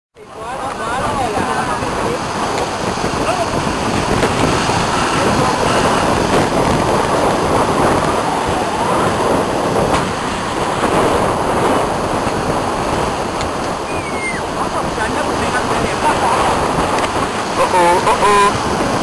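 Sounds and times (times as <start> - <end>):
heavy surf breaking: 0.2 - 19.0
wind buffeting microphone: 0.2 - 19.0.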